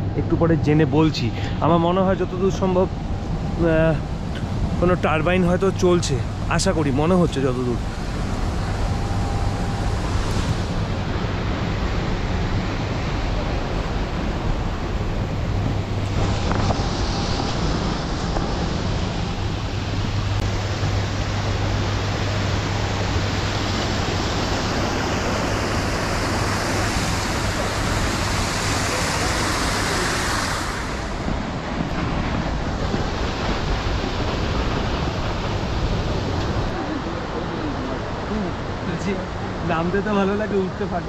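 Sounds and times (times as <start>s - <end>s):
low steady hum: 0.0s - 39.8s
mountain river rushing: 0.8s - 41.0s.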